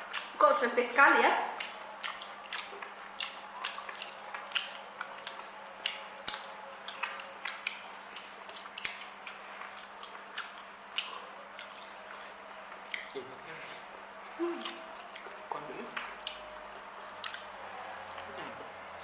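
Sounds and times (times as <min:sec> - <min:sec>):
wet chewing and lip-smacking: 0:00.0 - 0:00.4, 0:01.5 - 0:19.0.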